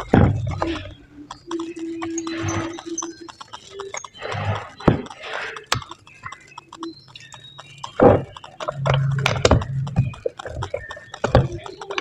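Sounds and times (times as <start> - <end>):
irregular clicks and knocks: 0.0 - 12.0
steady low hum: 0.0 - 12.0.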